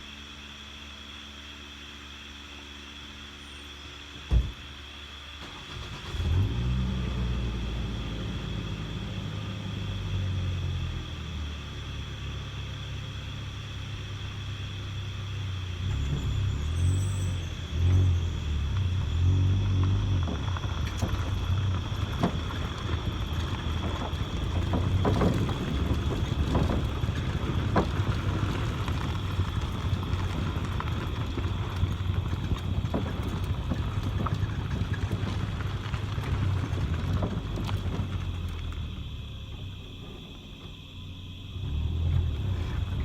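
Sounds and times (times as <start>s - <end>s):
vehicle engine running slowly: 6.0s - 43.0s.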